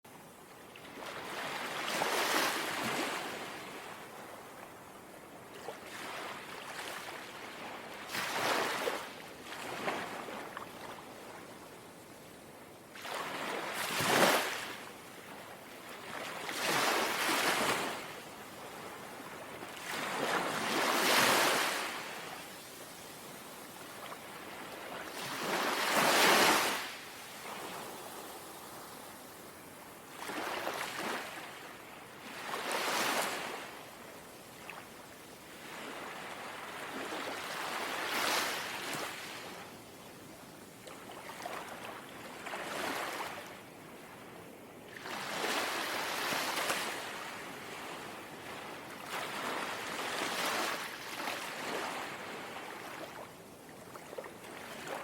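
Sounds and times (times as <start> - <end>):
gentle sea waves lapping: 0.5 - 55.0.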